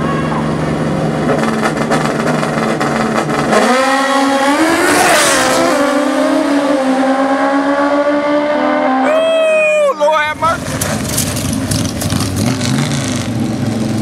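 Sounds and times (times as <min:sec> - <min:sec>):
racing engine revving: 0:00.5 - 0:09.1, 0:10.4 - 0:14.0.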